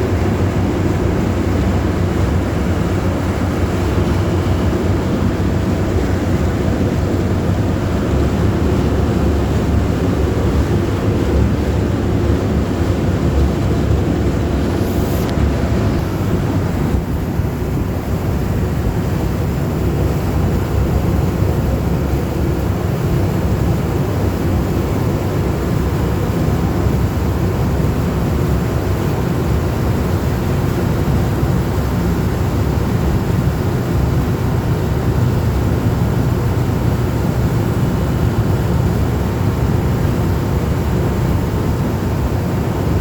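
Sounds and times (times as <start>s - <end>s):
boat engine running: 0.0s - 43.0s
wind buffeting microphone: 0.0s - 43.0s.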